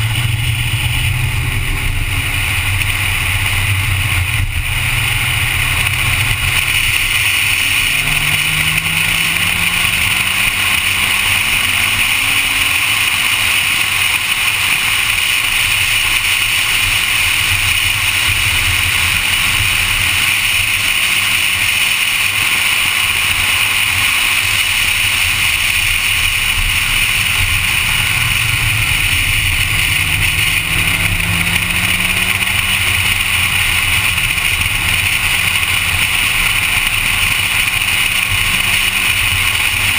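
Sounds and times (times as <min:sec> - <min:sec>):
car engine: 0:00.0 - 0:39.9
wind and road noise: 0:00.0 - 0:39.9.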